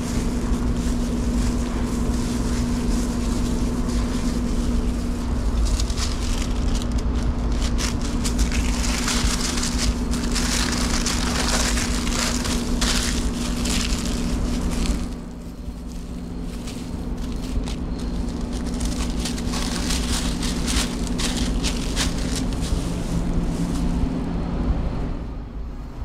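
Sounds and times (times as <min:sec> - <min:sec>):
paper and plastic gloves crinkling: 0:00.0 - 0:24.2
low machine hum: 0:00.0 - 0:26.0.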